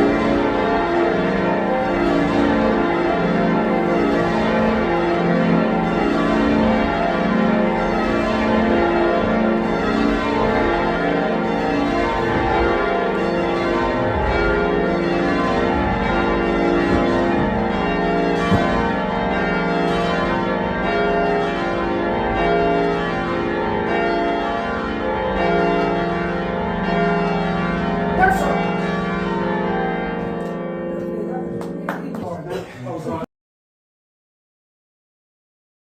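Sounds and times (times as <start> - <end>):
church bells ringing changes: 0.0 - 32.4.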